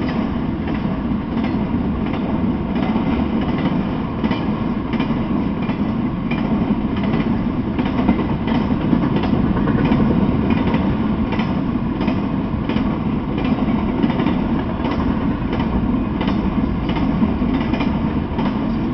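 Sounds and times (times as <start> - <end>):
short rail clicks: 0.0 - 18.9
train wheels rumbling on rail: 0.0 - 18.9.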